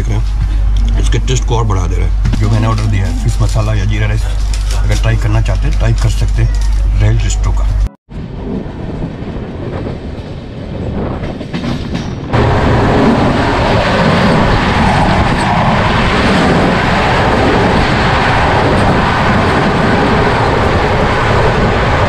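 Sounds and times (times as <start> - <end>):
train coach rumble and rattle: 0.0 - 22.0.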